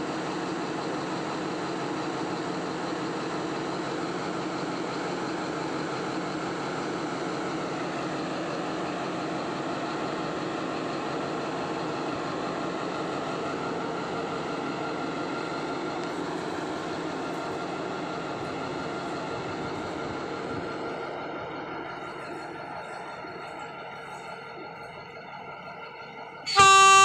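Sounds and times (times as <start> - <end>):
locomotive engine droning: 0.0 - 27.0.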